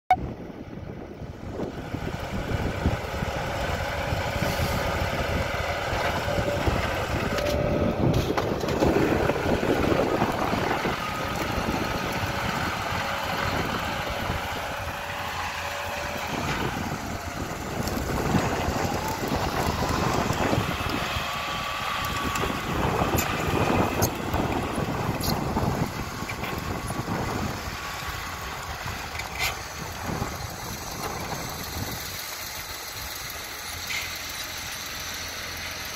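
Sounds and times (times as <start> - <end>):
tractor diesel engine: 0.2 - 35.9.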